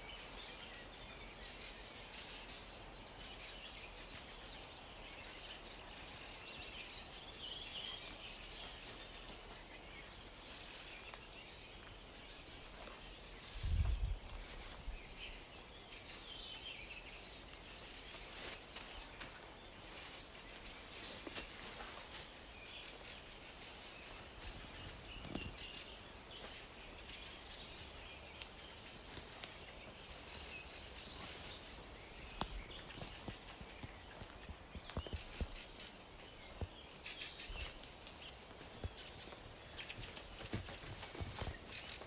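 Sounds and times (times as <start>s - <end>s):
birds chirping faintly: 0.0s - 42.0s
outdoor background hiss: 0.0s - 42.0s.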